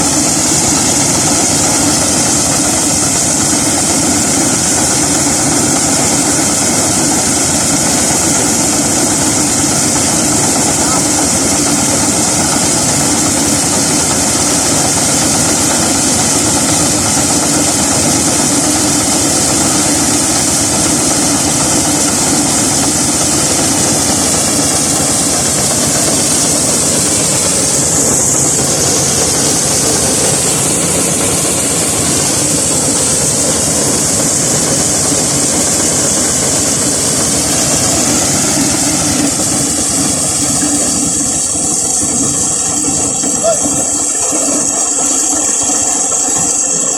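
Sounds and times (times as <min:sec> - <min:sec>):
corn sheller running: 0:00.0 - 0:46.9.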